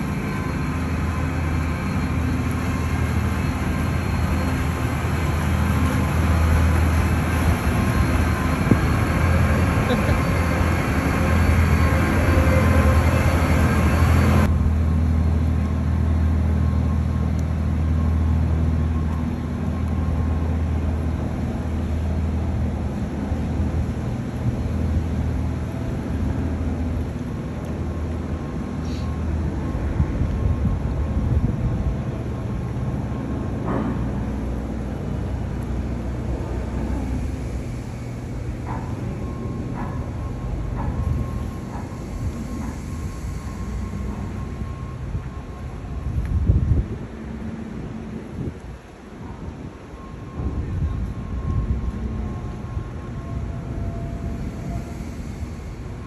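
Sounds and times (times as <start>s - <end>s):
boat engine running: 0.0s - 46.6s.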